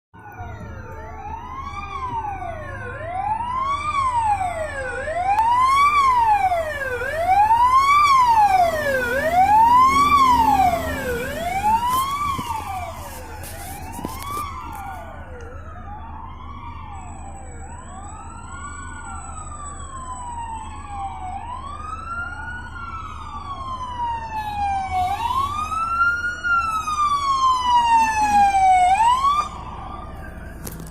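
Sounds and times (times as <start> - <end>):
wailing fire engine sirens: 0.2 - 30.9
low vehicle rumble: 0.3 - 30.9.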